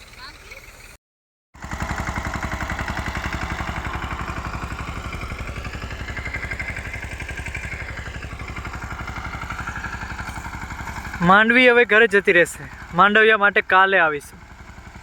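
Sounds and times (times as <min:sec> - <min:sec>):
tractor engine running: 0:01.6 - 0:15.0.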